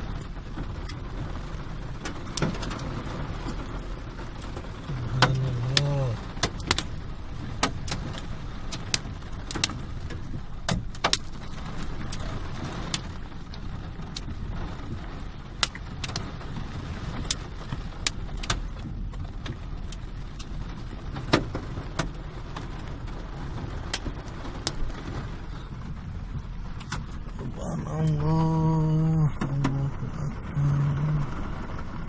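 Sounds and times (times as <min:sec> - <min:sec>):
hailstones clicking on hard surfaces: 0:00.0 - 0:28.2
steady low rumble: 0:00.0 - 0:32.0.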